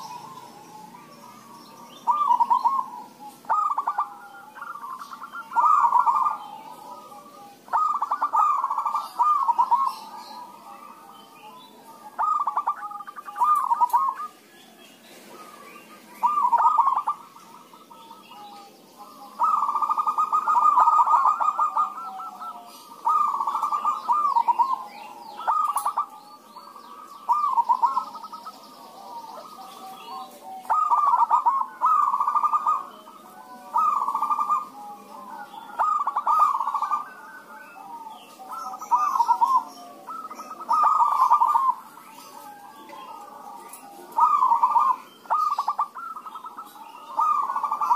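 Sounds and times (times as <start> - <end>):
doves cooing: 0.0 - 47.9.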